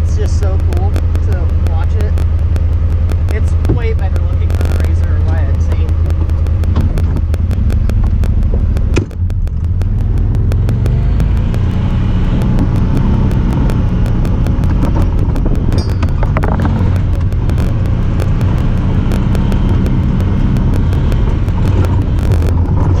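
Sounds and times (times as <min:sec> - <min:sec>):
fast thin clicks: 0:00.0 - 0:23.0
vehicle engine running: 0:00.0 - 0:23.0.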